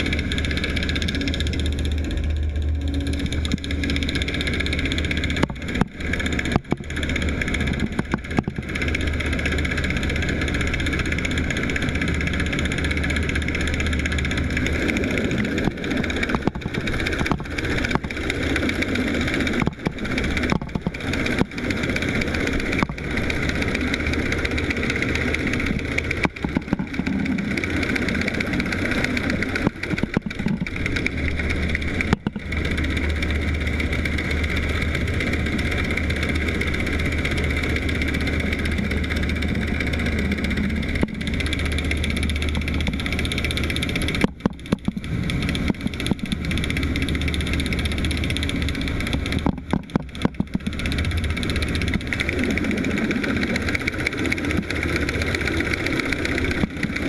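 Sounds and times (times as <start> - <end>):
boat engine droning underwater: 0.0 - 57.0.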